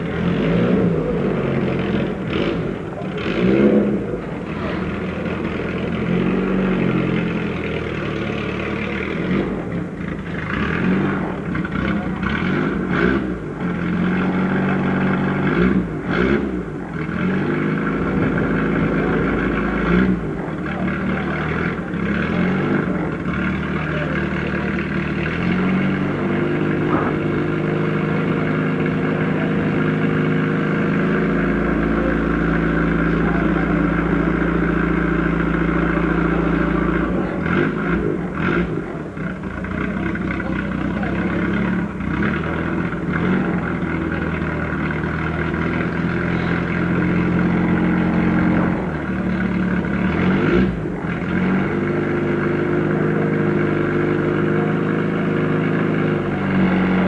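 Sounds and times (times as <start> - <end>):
race car engine revving hard: 0.0 - 57.0.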